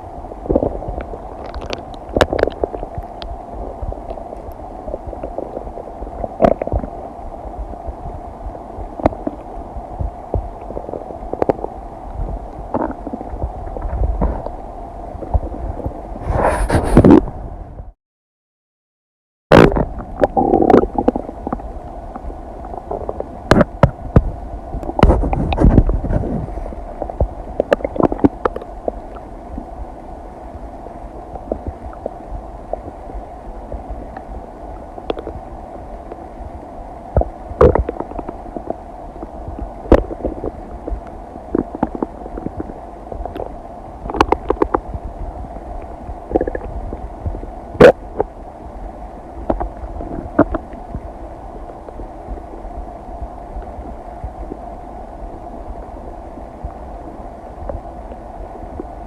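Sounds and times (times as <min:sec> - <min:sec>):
steady low hum: 0:00.0 - 0:18.0, 0:19.5 - 0:59.0
stomach gurgling and rumbling: 0:00.0 - 0:18.0, 0:19.5 - 0:59.0.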